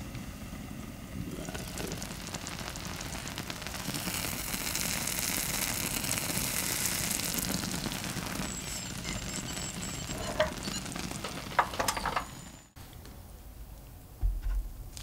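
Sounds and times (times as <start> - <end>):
food sizzling in a frying pan: 0.0 - 12.8.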